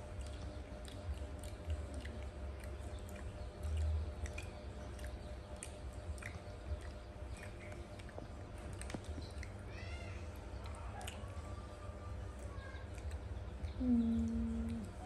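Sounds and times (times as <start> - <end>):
wet mouth clicks while eating: 0.0 - 9.7, 10.3 - 11.6, 12.4 - 15.0.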